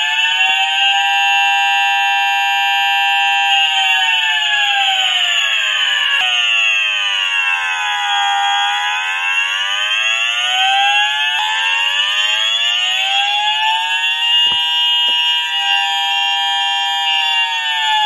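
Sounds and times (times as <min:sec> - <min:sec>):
wailing alarm siren: 0:00.0 - 0:18.0.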